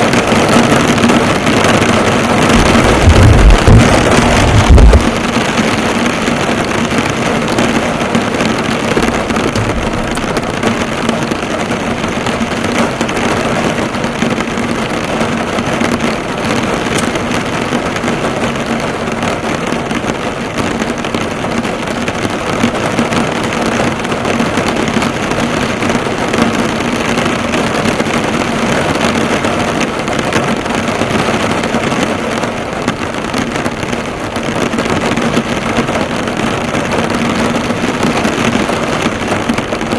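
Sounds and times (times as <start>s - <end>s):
heavy rain drumming on a car: 0.0s - 39.9s.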